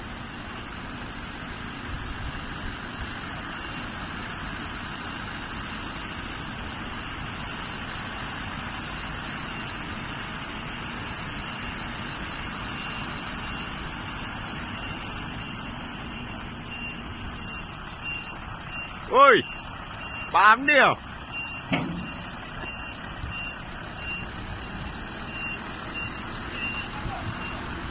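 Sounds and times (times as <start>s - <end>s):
road noise: 0.0s - 27.9s
truck engine rumble: 0.0s - 27.9s.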